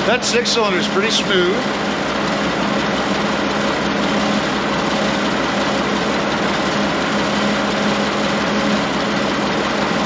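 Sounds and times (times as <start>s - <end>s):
tractor engine idling: 0.0s - 10.0s.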